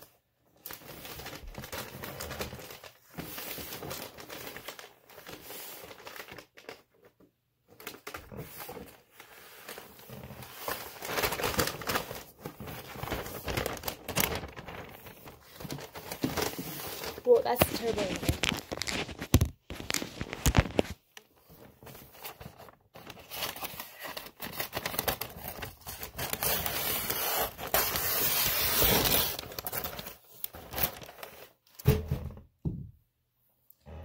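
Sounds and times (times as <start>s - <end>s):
wrapping paper crinkling: 0.0s - 31.8s.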